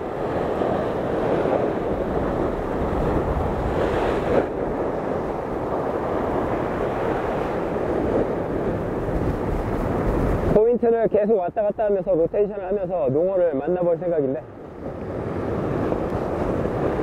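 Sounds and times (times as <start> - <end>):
sea surf breaking on rocks: 0.0 - 17.0
wind buffeting microphone: 0.0 - 17.0.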